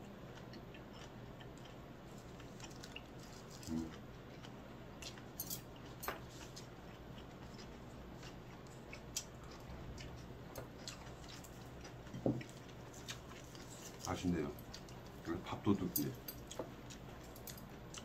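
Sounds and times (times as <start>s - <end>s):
chewing: 0.4s - 18.0s.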